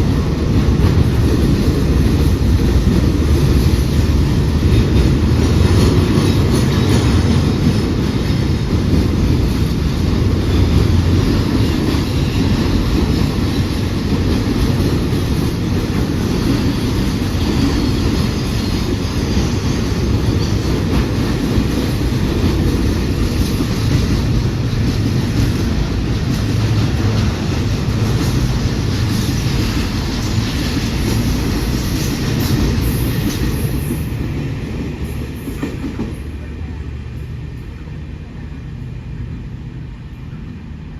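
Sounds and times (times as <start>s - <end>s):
clickety-clack over rail joints: 0.0s - 40.9s
train wheels rumbling on rails: 0.0s - 40.9s.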